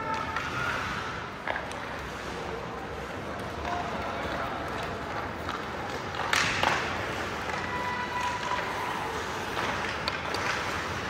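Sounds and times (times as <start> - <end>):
hockey sticks clicking puck: 0.0 - 11.0
skates scraping on ice: 0.0 - 11.0.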